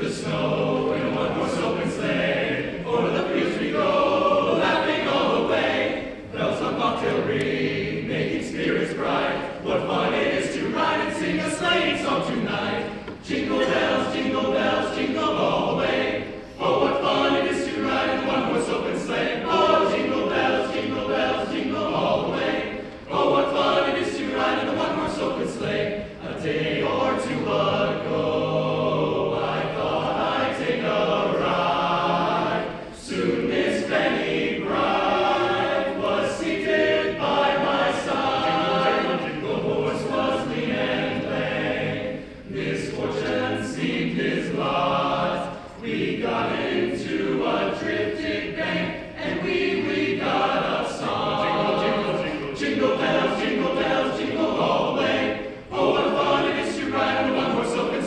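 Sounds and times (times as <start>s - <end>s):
men's chorus singing a cappella: 0.0s - 58.0s.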